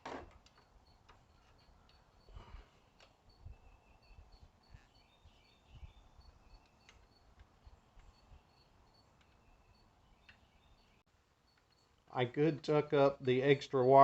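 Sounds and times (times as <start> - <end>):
faint high chirping: 0.5 - 12.8.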